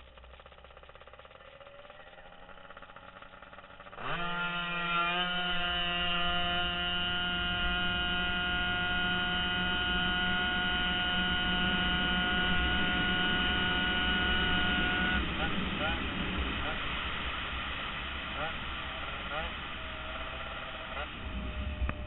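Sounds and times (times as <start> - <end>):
scooter engine revving: 0.0 - 17.0, 18.2 - 22.0.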